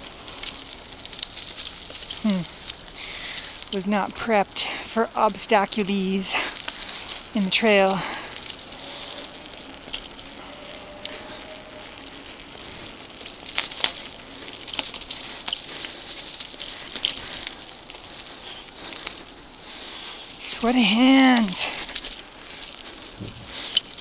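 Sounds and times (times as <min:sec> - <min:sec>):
bike tyres rolling over leaves: 0:00.0 - 0:24.0.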